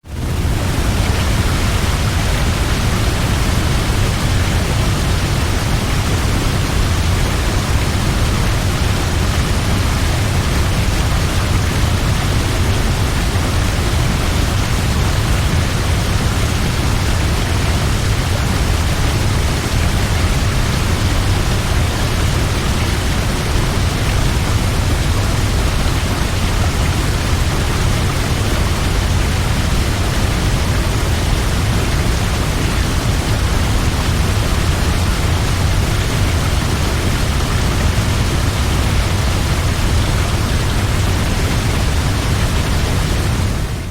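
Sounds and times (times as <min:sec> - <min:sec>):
waterfall rushing: 0:00.1 - 0:43.9.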